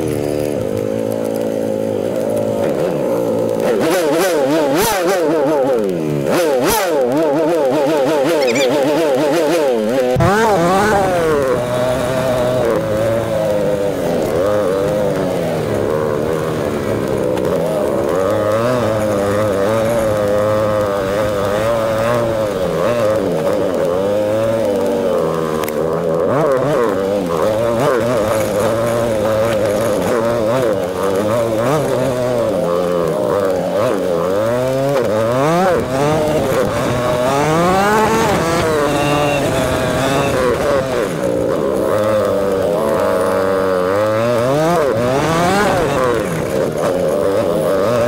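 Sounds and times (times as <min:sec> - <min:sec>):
atv engine revving: 0:00.0 - 0:48.0.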